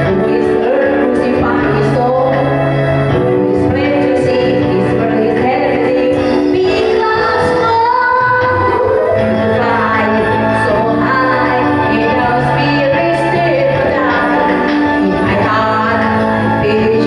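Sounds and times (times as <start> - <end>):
backing music: 0.0 - 17.0
woman singing into microphone: 0.0 - 17.0.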